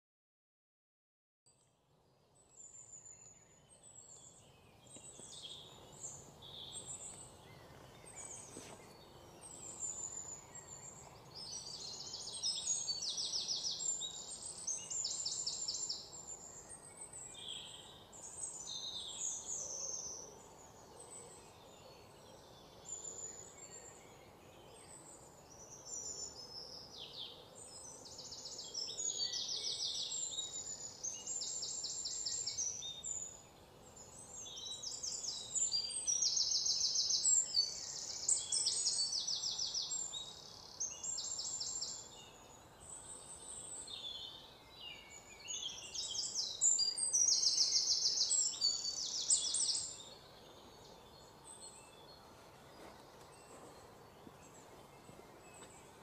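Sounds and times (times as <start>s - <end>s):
faint background hiss: 1.5s - 56.0s
small birds chirping: 1.5s - 56.0s.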